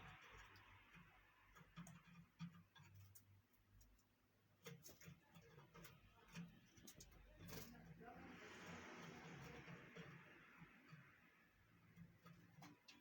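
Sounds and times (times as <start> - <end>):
canaries clicking and tapping in cage: 0.0 - 13.0.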